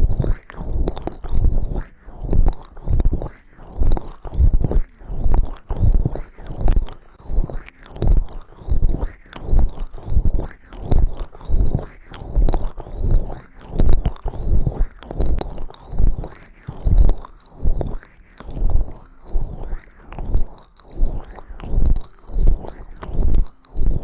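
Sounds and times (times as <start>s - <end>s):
rhythmic stroking against microphone: 0.0s - 24.0s.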